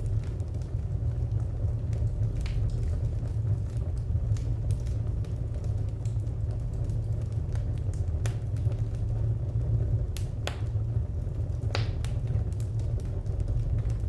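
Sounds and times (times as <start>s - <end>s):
fire pops and snaps: 0.0s - 14.0s
wood fire crackling: 0.0s - 14.0s.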